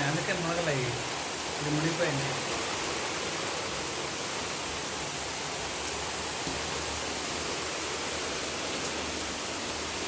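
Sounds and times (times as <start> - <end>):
heavy rain hissing: 0.0 - 10.0
running water: 0.0 - 10.0.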